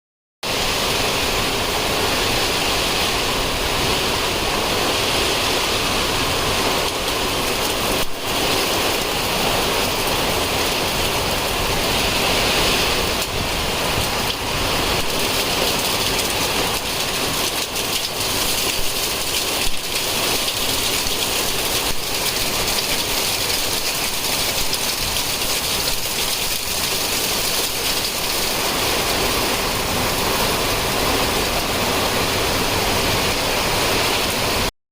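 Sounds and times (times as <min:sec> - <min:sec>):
heavy rain pouring: 0:00.4 - 0:34.7.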